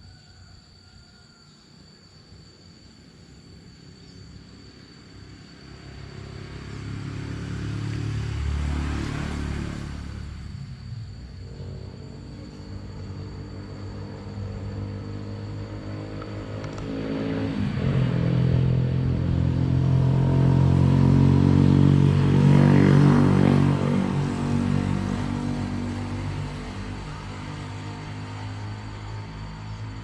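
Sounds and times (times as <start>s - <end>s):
vehicle engine passing by: 5.0s - 30.0s.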